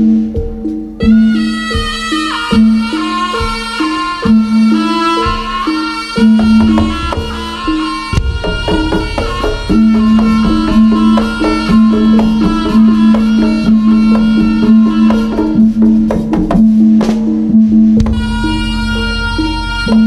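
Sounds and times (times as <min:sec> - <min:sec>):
drums: 0:00.0 - 0:20.0
gamelan music: 0:00.0 - 0:20.0.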